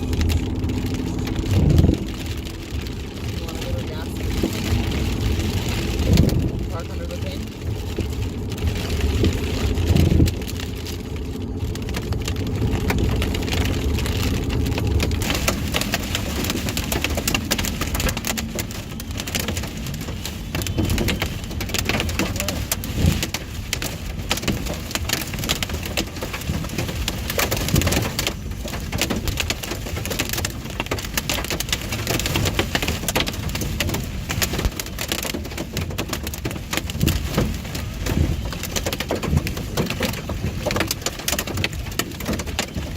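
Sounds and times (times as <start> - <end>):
low road rumble: 0.0 - 42.9
rain pelting car windshield: 0.0 - 42.9.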